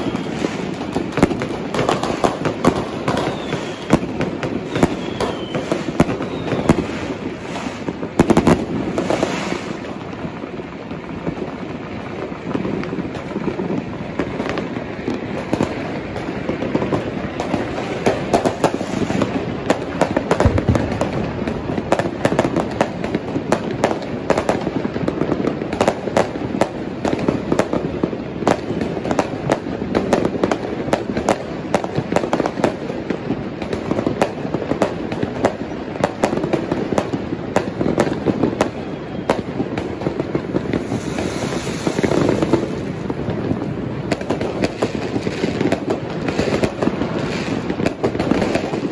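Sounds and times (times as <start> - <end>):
fireworks cracking and popping: 0.0 - 48.9.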